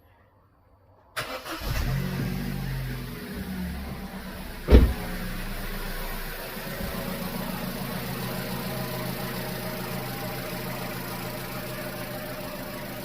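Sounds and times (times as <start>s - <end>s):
petrol engine idling: 1.2s - 13.0s.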